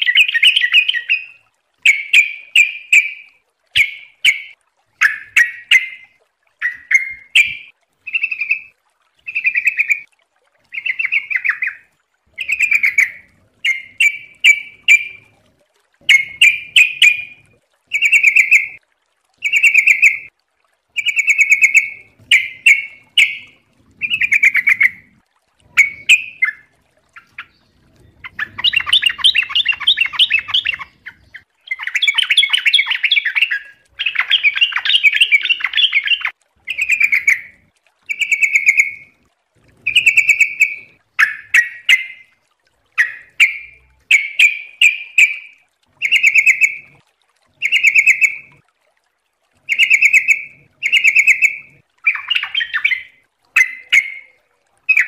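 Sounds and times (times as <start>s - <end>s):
bulbul singing: 0.0s - 15.4s, 16.0s - 18.8s, 19.4s - 20.3s, 21.0s - 42.4s, 43.0s - 47.0s, 47.6s - 48.6s, 49.6s - 55.0s.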